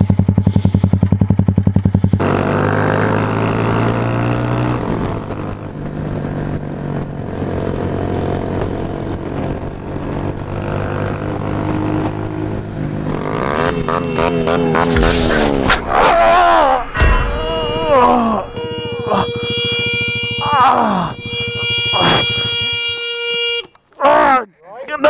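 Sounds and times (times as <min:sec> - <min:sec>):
motorcycle engine running: 0:00.0 - 0:15.1, 0:17.0 - 0:23.6.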